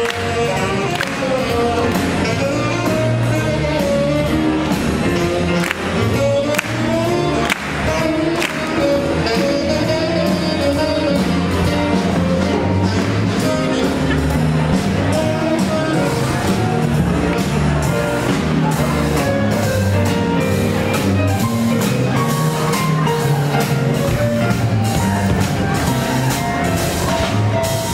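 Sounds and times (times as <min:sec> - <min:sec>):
swing jazz band playing: 0:00.0 - 0:27.9.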